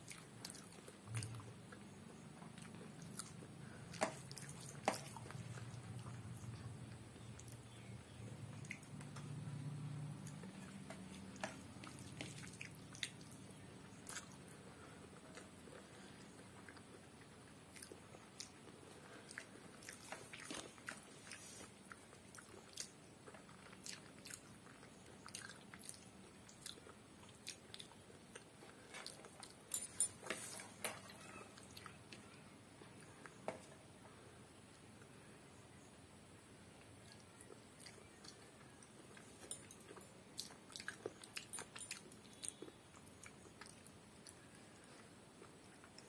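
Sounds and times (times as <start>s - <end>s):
chewing and mouth clicks: 0.0s - 9.4s, 10.2s - 33.8s, 37.0s - 46.0s.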